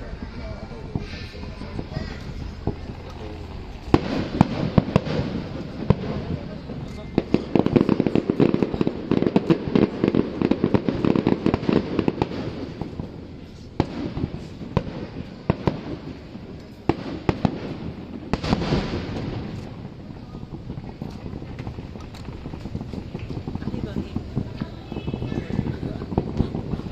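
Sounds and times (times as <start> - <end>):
fireworks bangs: 0.0 - 26.9
fireworks crackling: 0.0 - 26.9.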